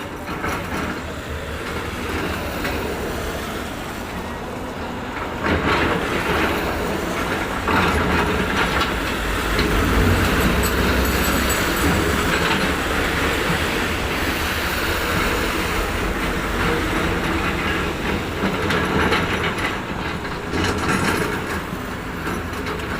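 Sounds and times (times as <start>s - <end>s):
construction machinery engine rumble: 0.0s - 22.9s.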